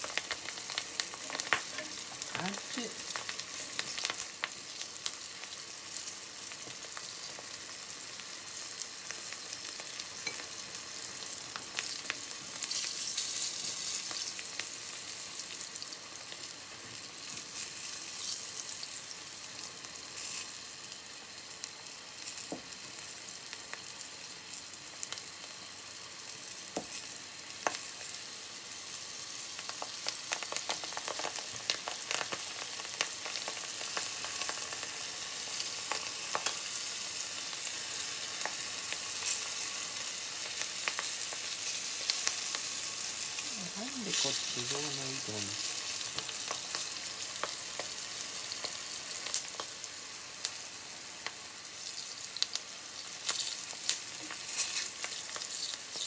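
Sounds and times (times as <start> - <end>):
frying sizzle: 0.0 - 56.0.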